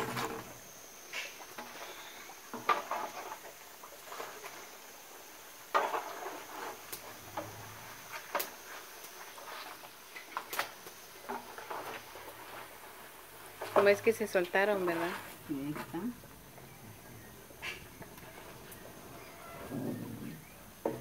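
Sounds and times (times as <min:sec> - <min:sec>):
oil sizzling: 0:00.0 - 0:19.7.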